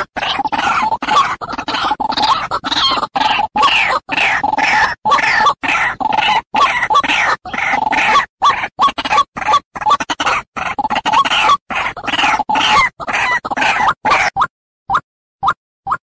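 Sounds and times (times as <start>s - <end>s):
harsh waterhen calls: 0.0s - 14.5s.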